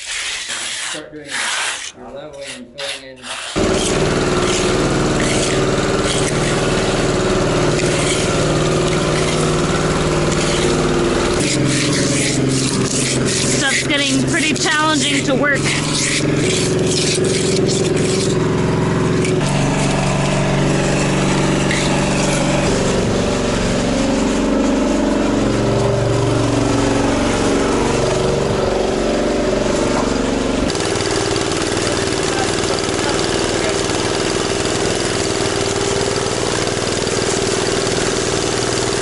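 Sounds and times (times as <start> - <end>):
engine running steadily: 3.6 - 39.0.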